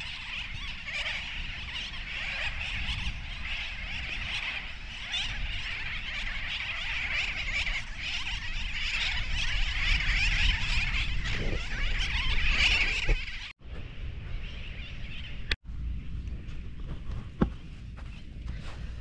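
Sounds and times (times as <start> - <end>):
seabirds calling: 0.0 - 15.6, 16.4 - 19.0
wind rumbling on microphone: 0.0 - 19.0.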